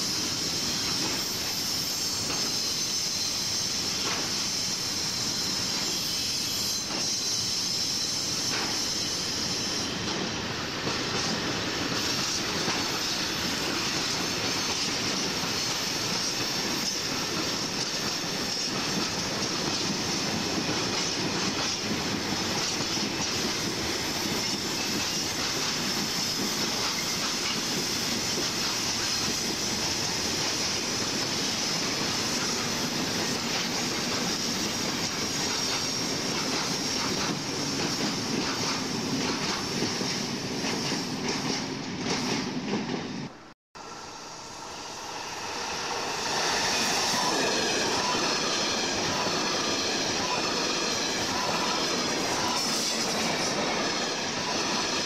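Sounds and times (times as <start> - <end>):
high wheel squeal: 0.0 - 10.2, 11.9 - 38.8, 43.8 - 55.0
steel wheels rumbling on rail: 0.0 - 55.0.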